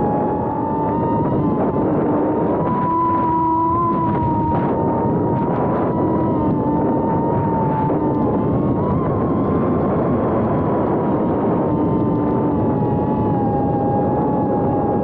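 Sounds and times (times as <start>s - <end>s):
drone propellers whining: 0.0s - 15.0s
wind rushing: 0.0s - 15.0s.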